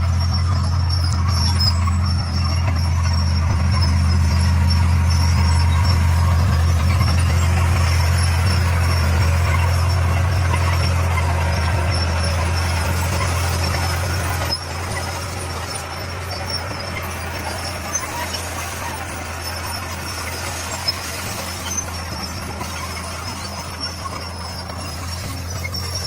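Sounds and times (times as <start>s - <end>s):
bulldozer diesel engine running: 0.0s - 26.0s
faint high squeal: 0.0s - 26.0s
gravelly rattle: 0.0s - 26.0s.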